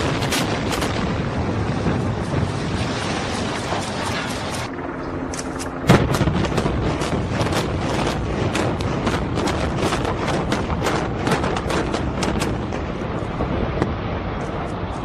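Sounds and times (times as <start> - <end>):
demolition charges blasting: 0.0 - 4.7, 5.8 - 14.7
heavy rumble: 0.0 - 15.0.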